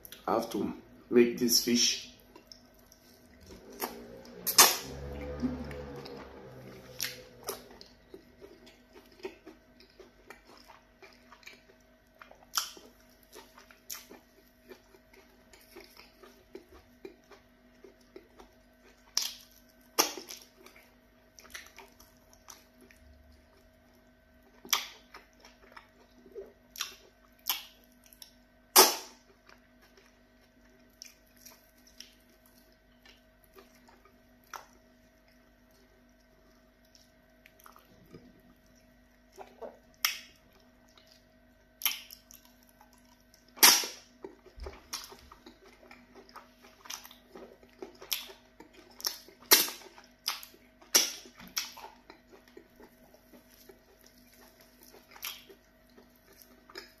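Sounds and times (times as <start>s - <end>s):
wet chewing and mouth smacks: 2.2s - 57.0s.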